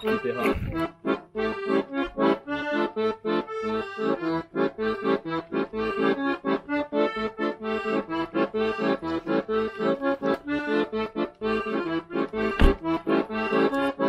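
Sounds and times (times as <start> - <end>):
lively instrumental music: 0.0 - 14.0.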